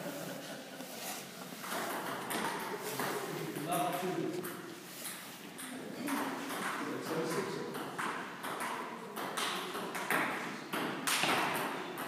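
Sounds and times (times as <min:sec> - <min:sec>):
table tennis balls clicking: 0:01.6 - 0:12.0.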